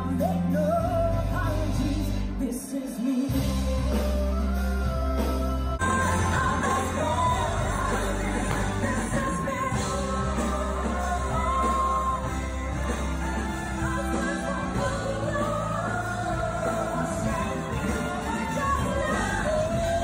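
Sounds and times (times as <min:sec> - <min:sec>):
live band with singers: 0:00.0 - 0:20.0.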